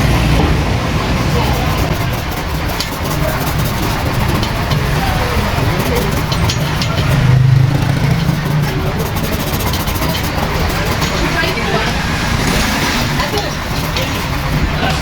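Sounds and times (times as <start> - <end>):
background traffic noise: 0.0 - 15.0
vehicle engine passing: 0.0 - 15.0.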